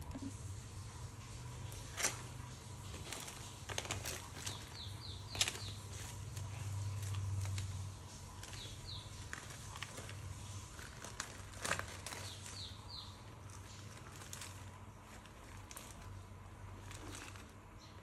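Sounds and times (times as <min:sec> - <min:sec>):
low steady hum: 0:00.0 - 0:18.0
dry leaf crackling and rustling: 0:01.2 - 0:18.0.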